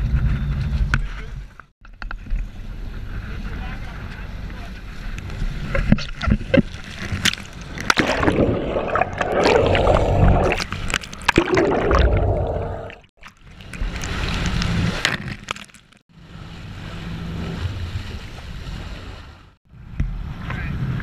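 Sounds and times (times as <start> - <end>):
waves splashing against boat: 3.3 - 20.7.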